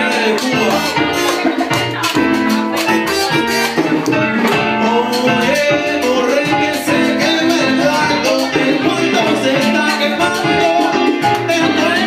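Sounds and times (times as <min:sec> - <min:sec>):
dance band playing live: 0:00.0 - 0:12.0
guitar: 0:00.0 - 0:12.0
percussion in dance rhythm: 0:00.0 - 0:12.0
person singing: 0:00.0 - 0:12.0.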